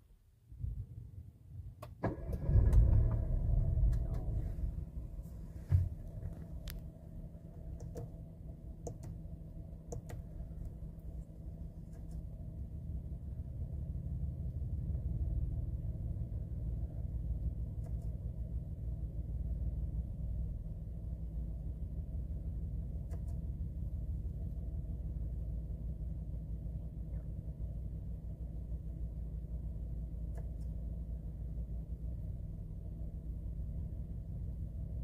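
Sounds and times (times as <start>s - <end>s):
low rumble inside car: 0.0s - 35.0s.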